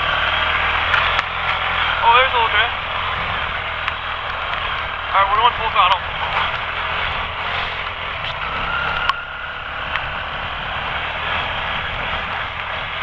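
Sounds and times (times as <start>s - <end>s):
quad engine at full throttle: 0.0s - 13.0s.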